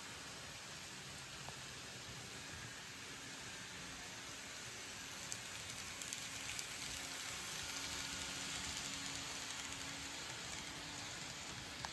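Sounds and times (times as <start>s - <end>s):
faint motor hum: 0.0s - 11.9s
model train wheels rolling: 0.0s - 11.9s.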